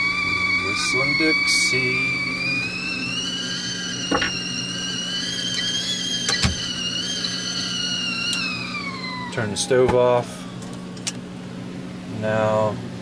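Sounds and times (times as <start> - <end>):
kettle whistling: 0.0 - 11.1.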